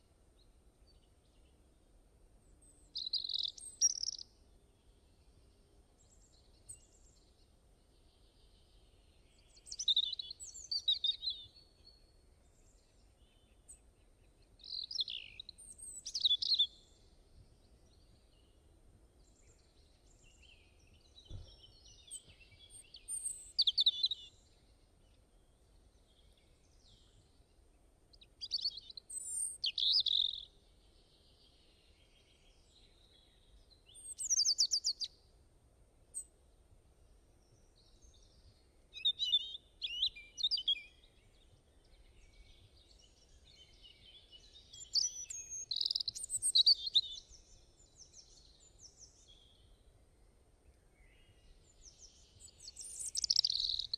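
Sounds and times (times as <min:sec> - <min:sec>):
songbird chirps and trills: 0:00.0 - 0:53.9.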